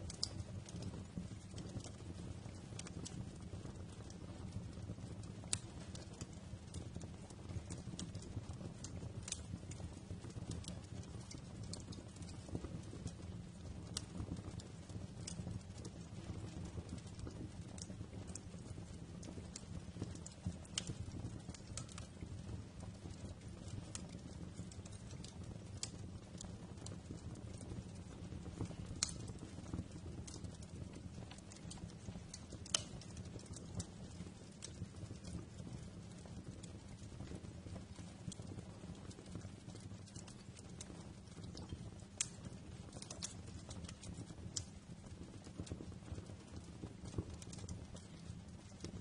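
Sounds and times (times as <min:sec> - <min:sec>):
low rumble of flames: 0:00.0 - 0:49.0
wood fire crackling and popping: 0:00.0 - 0:49.0.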